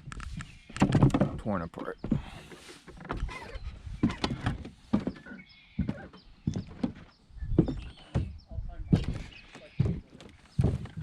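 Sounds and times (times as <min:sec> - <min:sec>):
footsteps on hard ground: 0:00.0 - 0:11.0.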